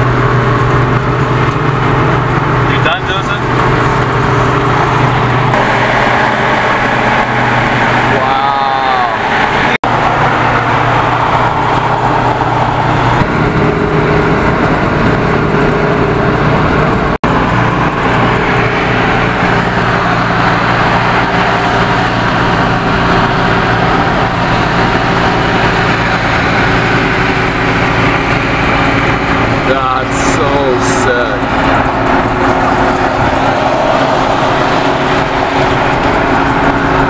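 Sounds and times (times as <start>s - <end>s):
low engine drone: 0.0s - 37.0s
road noise inside a car: 0.0s - 37.0s.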